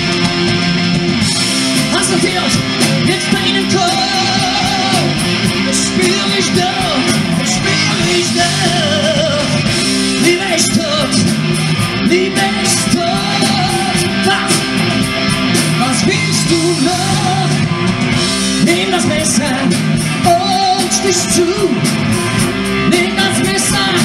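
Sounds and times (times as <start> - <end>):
bass guitar: 0.0 - 24.0
drums with cymbal hits: 0.0 - 24.0
electric guitar: 0.0 - 24.0
man singing: 1.8 - 17.8, 18.4 - 22.0, 22.8 - 24.0.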